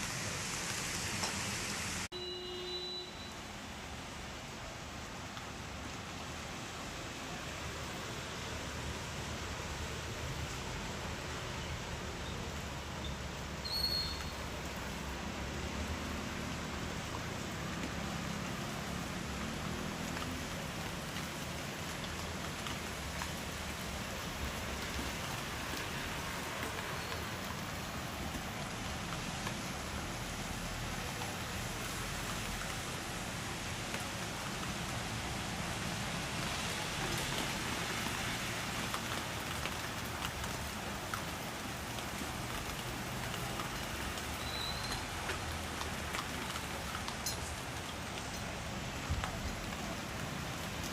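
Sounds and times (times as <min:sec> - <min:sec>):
rain falling: 0:00.0 - 0:50.9.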